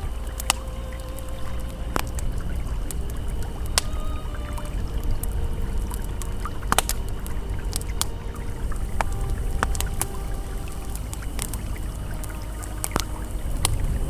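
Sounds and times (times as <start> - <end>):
campfire crackling: 0.0 - 14.0
flowing river: 0.0 - 14.0.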